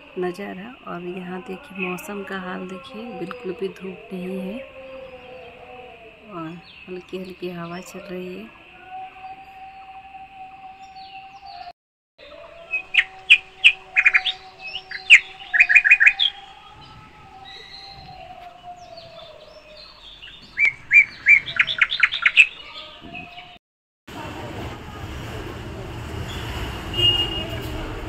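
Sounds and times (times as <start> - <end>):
birds chirping: 0.0 - 23.6.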